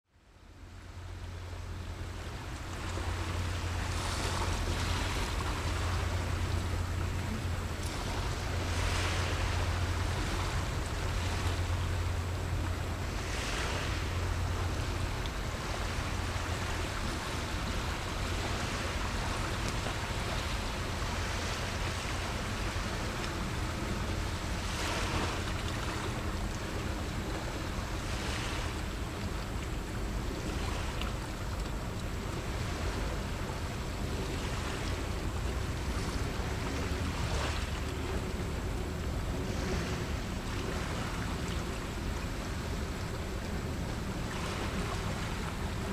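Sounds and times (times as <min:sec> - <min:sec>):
steady low hum: 0:00.1 - 0:45.9
small waves washing: 0:00.4 - 0:45.9.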